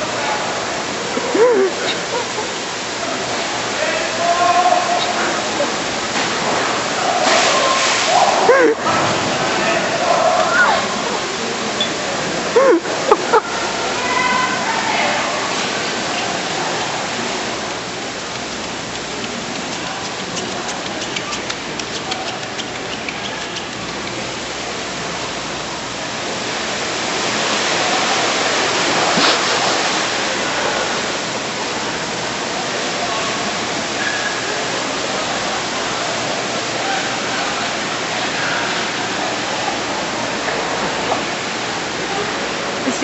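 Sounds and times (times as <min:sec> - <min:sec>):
rushing water: 0:00.0 - 0:43.0.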